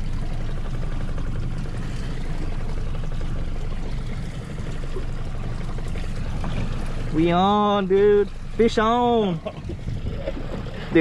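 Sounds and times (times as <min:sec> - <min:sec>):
outboard motor running: 0:00.0 - 0:11.0
water splashing along hull: 0:00.0 - 0:11.0.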